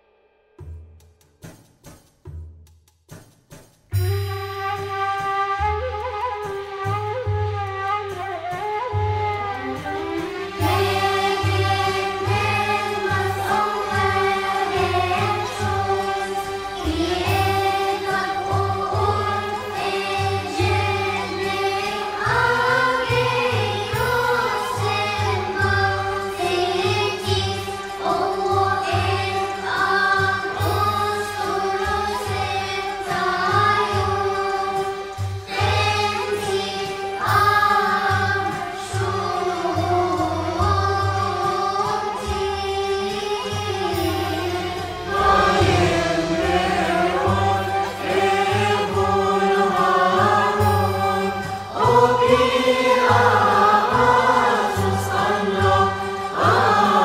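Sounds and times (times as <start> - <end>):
low accompanying notes: 6.1 - 57.0
children's choir singing a hymn: 10.2 - 57.0.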